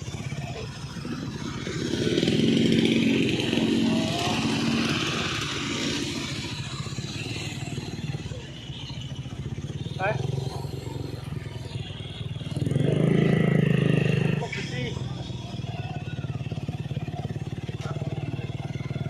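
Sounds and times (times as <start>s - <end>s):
louder engine passing: 0.0s - 19.0s
small petrol engine running: 0.0s - 19.0s.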